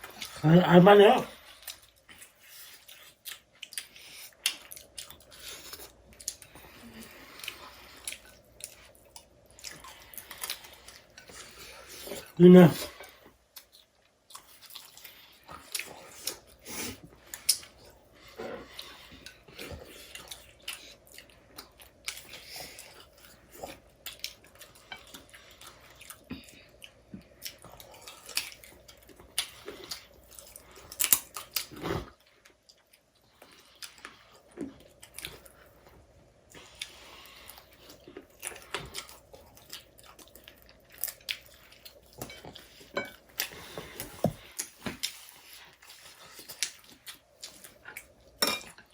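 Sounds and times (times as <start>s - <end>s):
people chewing food: 0.0s - 48.9s.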